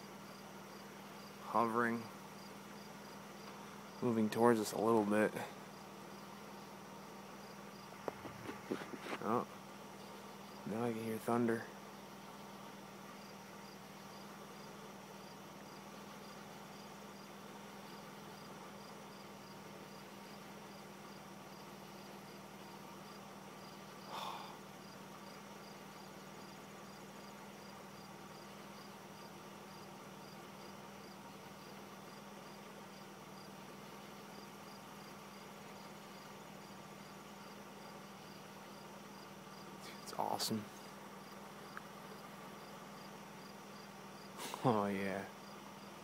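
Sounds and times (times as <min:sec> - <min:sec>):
crickets chirping: 0:00.0 - 0:46.0
faint steady hum: 0:00.0 - 0:46.0.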